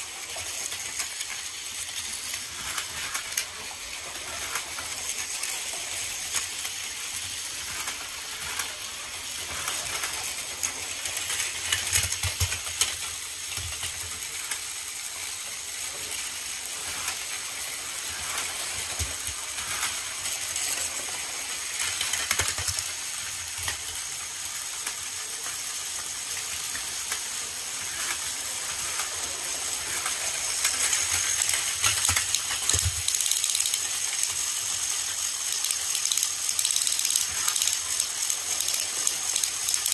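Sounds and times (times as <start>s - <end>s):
plastic clacks of colliding trains: 0.0s - 39.9s
toy trains whirring and clattering: 0.0s - 39.9s.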